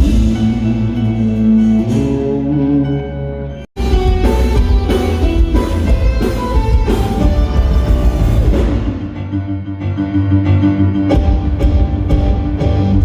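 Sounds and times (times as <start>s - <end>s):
music with bass drums and guitar: 0.0s - 13.0s.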